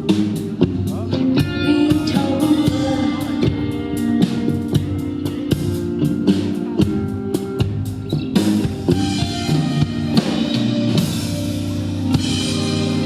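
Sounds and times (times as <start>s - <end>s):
drum kit steady beat: 0.0s - 13.0s
guitar: 0.0s - 13.0s.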